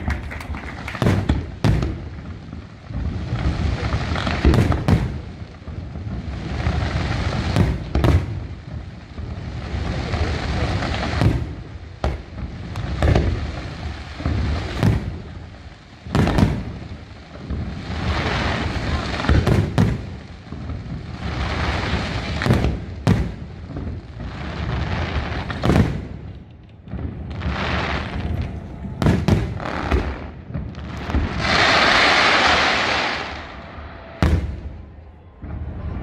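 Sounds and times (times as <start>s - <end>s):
fireworks bursting with bangs: 0.0s - 36.0s.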